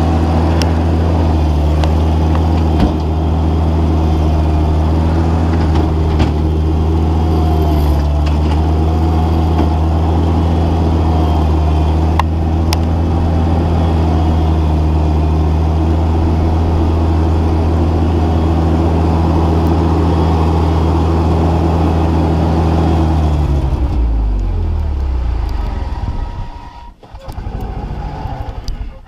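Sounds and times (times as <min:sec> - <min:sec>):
loader engine running: 0:00.0 - 0:29.0.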